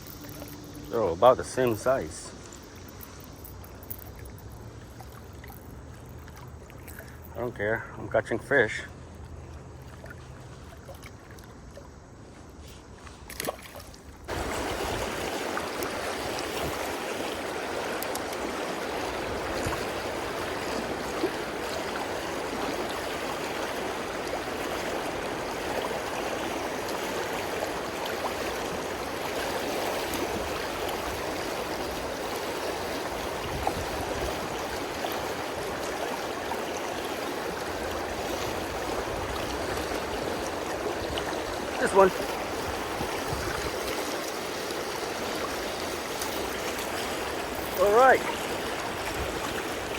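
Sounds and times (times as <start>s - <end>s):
river water rushing: 0.0s - 11.4s, 13.4s - 49.9s.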